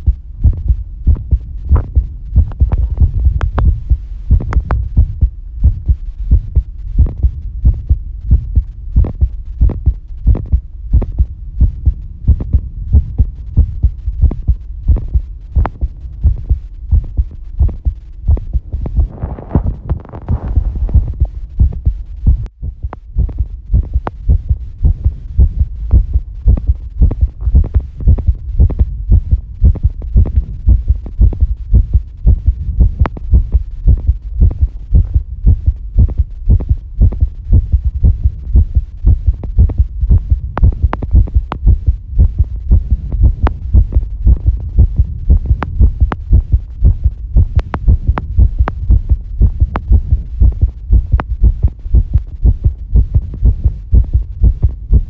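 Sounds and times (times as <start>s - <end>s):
heartbeat thuds: 0.0s - 55.0s.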